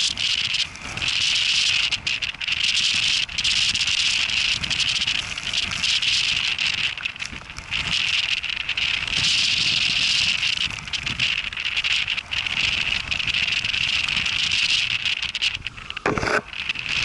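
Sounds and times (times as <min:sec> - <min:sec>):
wind and rain on microphone: 0:00.0 - 0:17.0.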